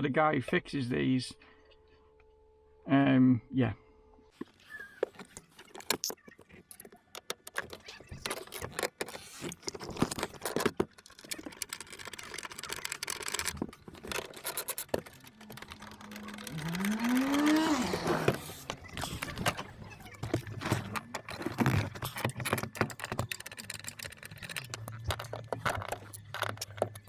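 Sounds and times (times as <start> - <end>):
clicks and rattles of car parts: 4.4 - 27.0.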